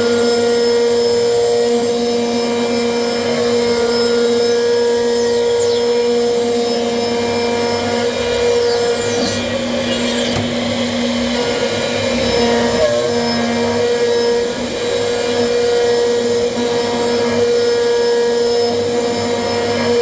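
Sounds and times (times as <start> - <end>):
machine motor whine: 0.0 - 20.0
mechanical hum: 0.0 - 20.0.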